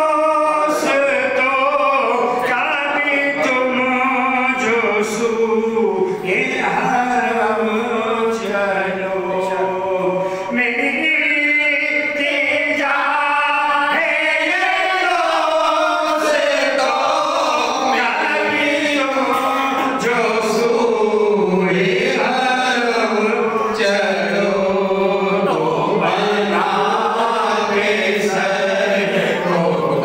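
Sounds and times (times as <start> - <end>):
man singing into a microphone: 0.0 - 30.0.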